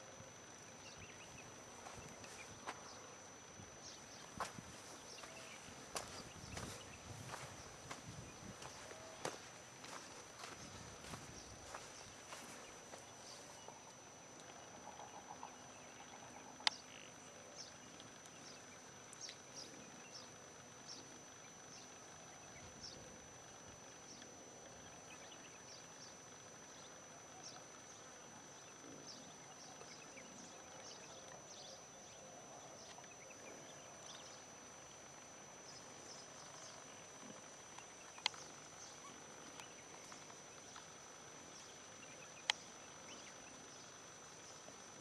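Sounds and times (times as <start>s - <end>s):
thin high-pitched whine: 0.0s - 45.0s.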